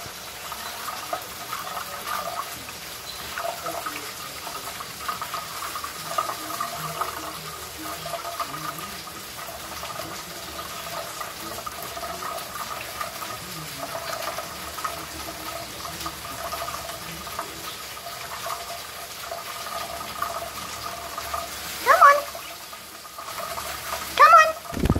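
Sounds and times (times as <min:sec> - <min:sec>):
bird bathing splashes: 0:00.0 - 0:24.9
tap water splashing onto plate: 0:00.0 - 0:24.9.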